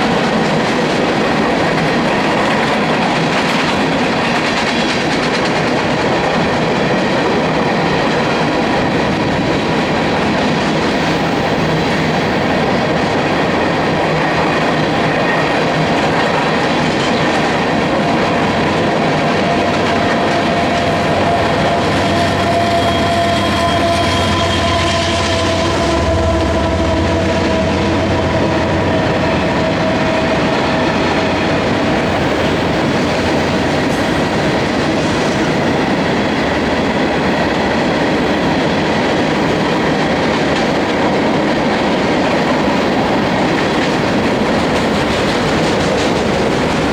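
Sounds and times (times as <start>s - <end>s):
train wheels on rail: 0.0s - 46.9s.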